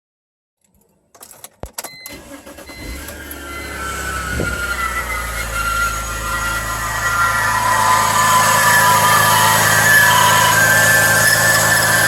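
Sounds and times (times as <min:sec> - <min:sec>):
car engine starting and running: 0:01.1 - 0:12.0
high falling squeal: 0:02.1 - 0:12.0.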